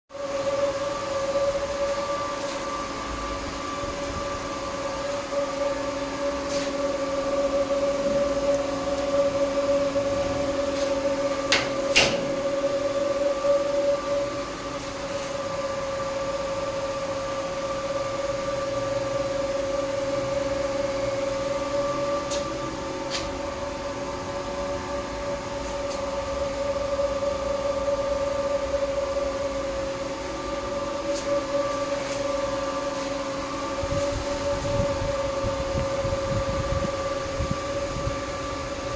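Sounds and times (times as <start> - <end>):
server cooling fans whining: 0.1 - 38.9.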